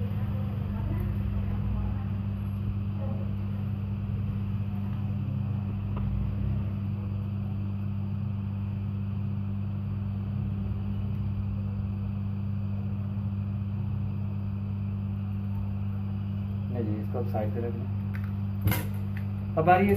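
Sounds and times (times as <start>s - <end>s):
low electrical hum: 0.0s - 19.9s.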